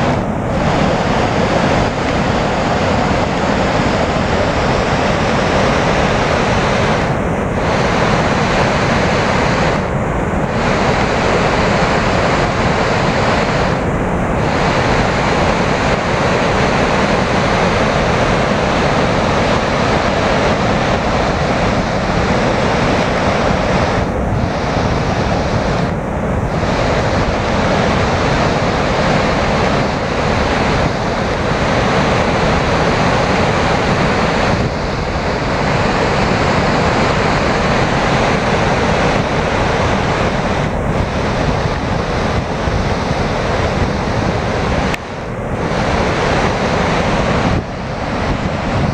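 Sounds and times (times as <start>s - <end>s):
waterfall rushing: 0.0s - 48.9s
wind buffeting microphone: 0.0s - 48.9s.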